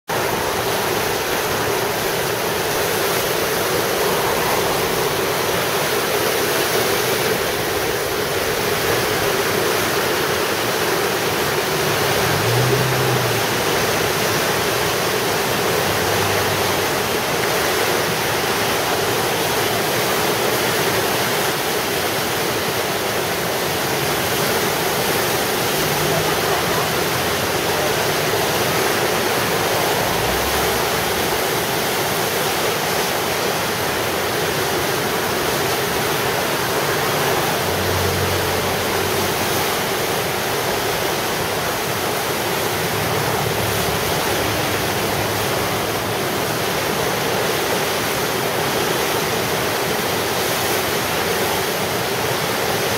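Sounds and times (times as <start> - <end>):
floodwater rushing: 0.0 - 52.9.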